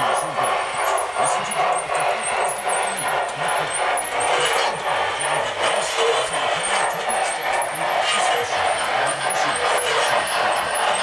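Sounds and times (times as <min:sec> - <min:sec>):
model train whirring on track: 0:00.0 - 0:11.0.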